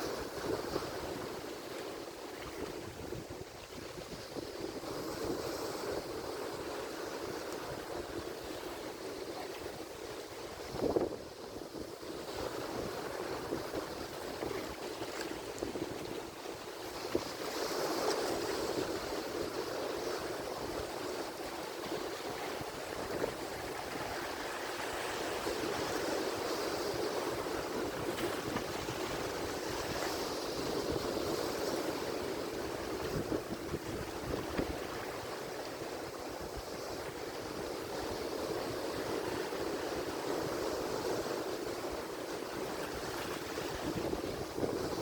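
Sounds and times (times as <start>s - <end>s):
ocean waves breaking: 0.0s - 45.0s.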